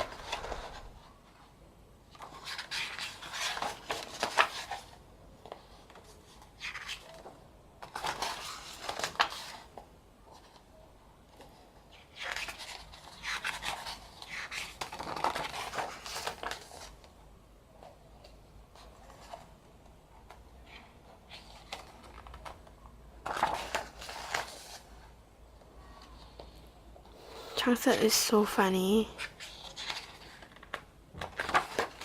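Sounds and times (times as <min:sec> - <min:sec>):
paper and card rustling: 0:00.0 - 0:01.5, 0:02.1 - 0:10.7, 0:11.3 - 0:17.1, 0:17.8 - 0:25.1, 0:27.2 - 0:32.0.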